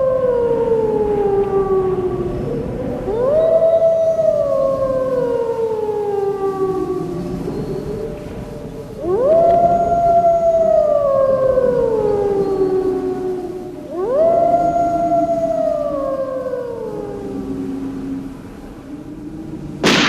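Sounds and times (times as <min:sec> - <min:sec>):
wolf howling: 0:00.0 - 0:20.0.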